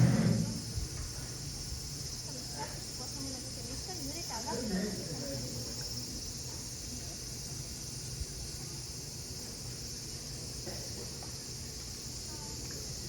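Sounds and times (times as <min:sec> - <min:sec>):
cicadas singing: 0:00.0 - 0:13.0.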